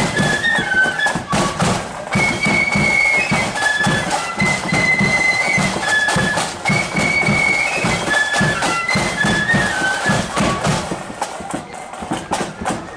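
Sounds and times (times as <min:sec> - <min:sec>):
drums beating steady time: 0:00.0 - 0:12.9
flutes playing melody: 0:00.0 - 0:12.9.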